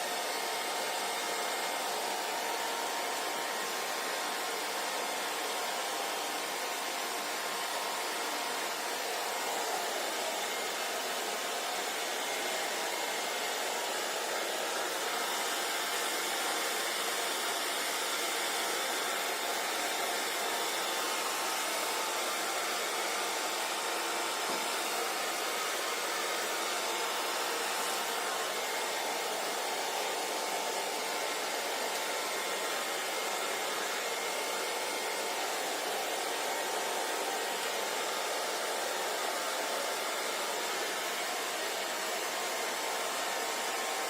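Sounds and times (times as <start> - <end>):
hair dryer blowing air: 0.0 - 44.0.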